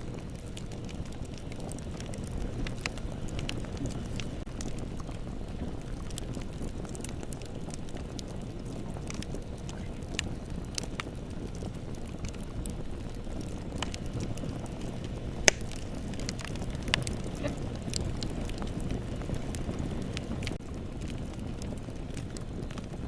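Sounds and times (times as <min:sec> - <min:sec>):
low steady rumble of fire: 0:00.0 - 0:23.0
wood fire pops and snaps: 0:00.0 - 0:23.0.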